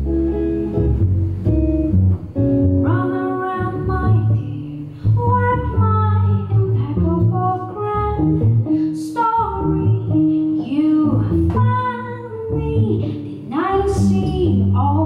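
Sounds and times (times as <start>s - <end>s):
electric guitar playing: 0.0s - 15.0s
upright bass plucked: 0.0s - 15.0s
woman singing: 2.8s - 15.0s.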